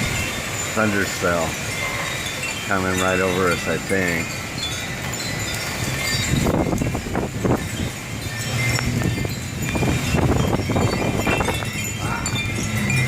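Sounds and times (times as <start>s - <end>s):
wind buffeting microphone: 0.0s - 13.0s
wind chimes tinkling: 0.0s - 13.0s.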